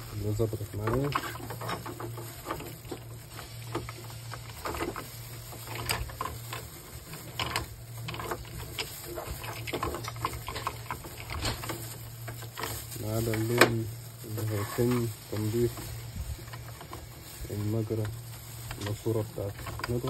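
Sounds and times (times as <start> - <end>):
rustling of gloved hands: 0.0 - 20.0.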